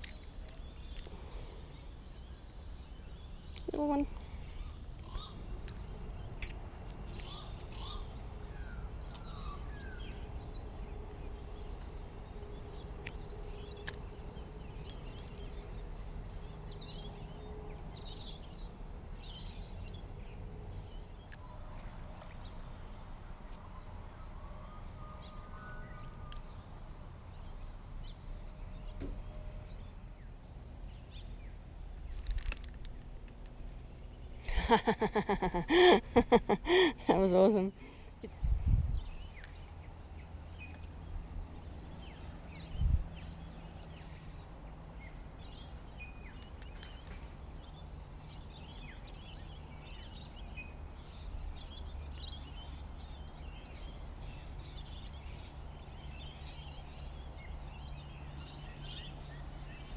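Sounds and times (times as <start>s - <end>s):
birds chirping: 0.0s - 59.9s
faint steady hum: 0.0s - 59.9s.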